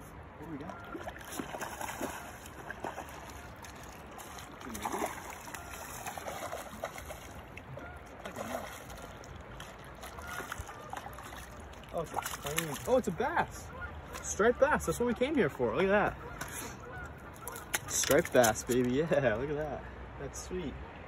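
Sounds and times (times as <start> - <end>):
river water lapping on rocks: 0.5 - 19.4.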